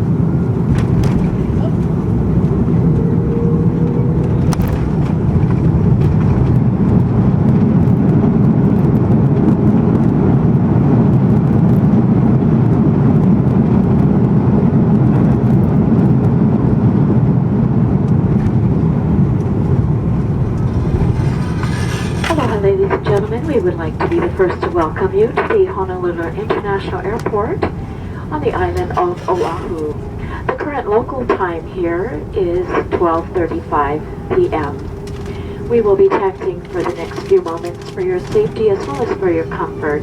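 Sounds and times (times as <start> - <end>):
engines and wheels rumbling: 0.0 - 40.0.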